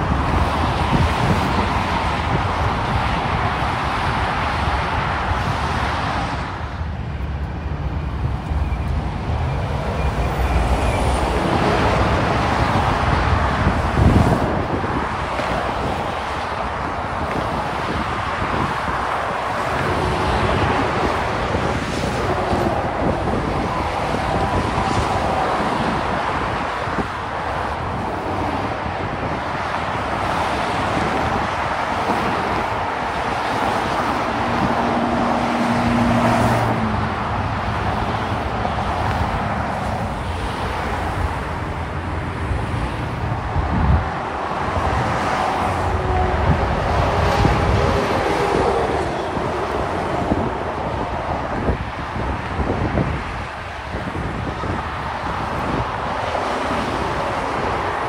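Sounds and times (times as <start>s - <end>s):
heavy traffic rushing: 0.0s - 58.0s.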